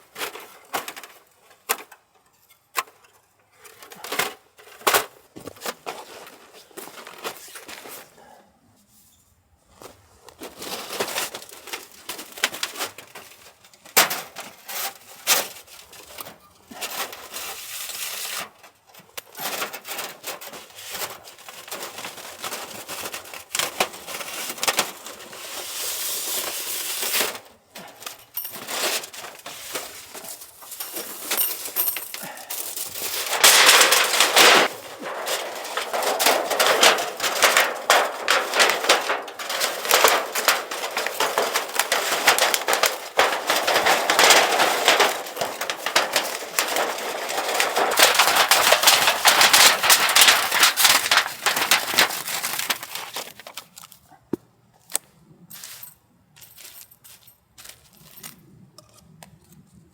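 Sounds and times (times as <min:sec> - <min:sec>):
camping gear clicking and rustling: 0:00.0 - 0:08.4, 0:09.7 - 0:59.6.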